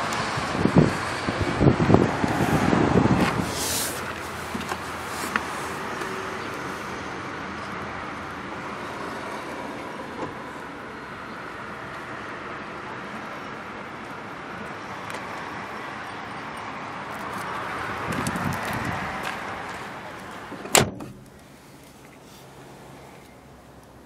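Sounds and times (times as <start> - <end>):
traffic: 0.0 - 24.0.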